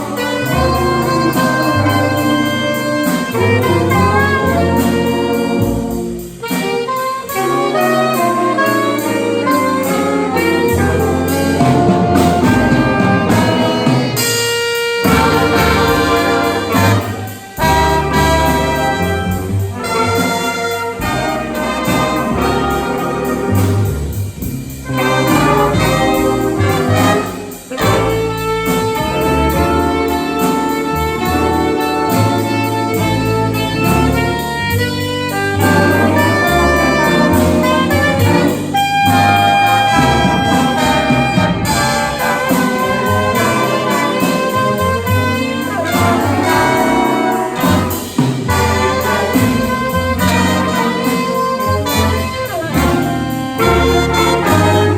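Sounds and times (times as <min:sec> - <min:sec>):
jazz big band playing: 0:00.0 - 0:54.9.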